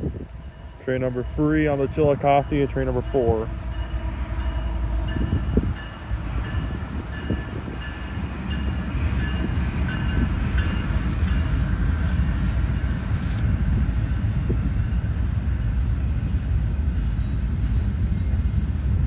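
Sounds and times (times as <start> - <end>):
passenger train rumbling: 0.0 - 19.0
high-pitched train squeals: 3.7 - 19.0.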